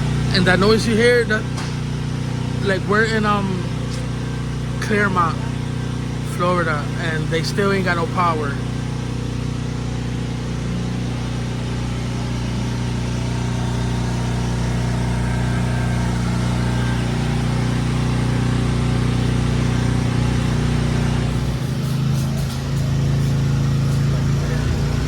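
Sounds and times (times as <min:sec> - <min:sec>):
generator humming: 0:00.0 - 0:25.0.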